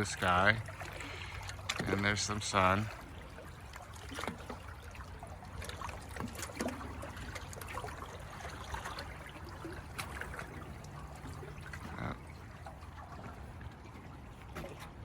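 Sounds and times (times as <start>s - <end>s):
floodwater lapping and trickling: 0.0s - 15.0s
small water splashes: 0.0s - 15.0s.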